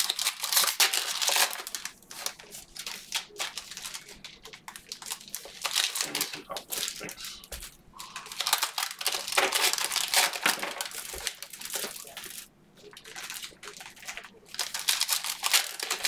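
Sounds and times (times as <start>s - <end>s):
foil wrappers crinkling: 0.0s - 16.0s.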